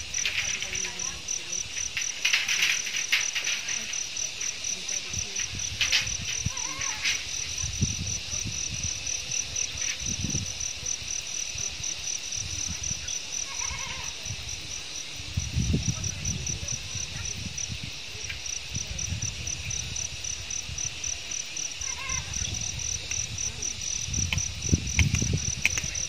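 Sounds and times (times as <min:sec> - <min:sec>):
insects chirping in a trill: 0:00.0 - 0:26.0.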